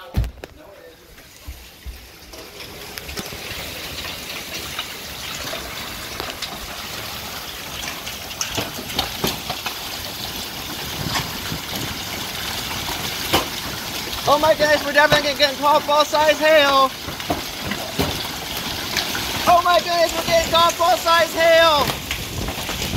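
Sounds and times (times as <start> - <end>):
heavy rain: 0.0 - 22.9
hailstones striking: 1.4 - 22.9.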